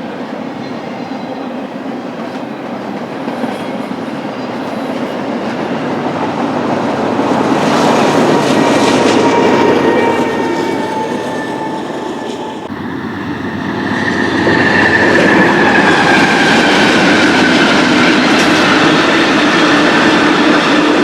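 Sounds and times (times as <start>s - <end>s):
freight train rumbling on rails: 0.0s - 21.0s
train wheel squeal: 0.0s - 21.0s.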